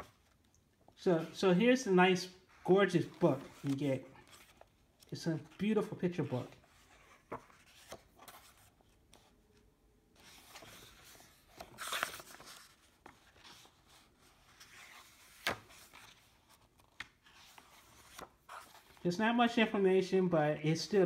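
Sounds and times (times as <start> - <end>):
paper pages rustling: 0.0 - 1.4, 2.5 - 19.0.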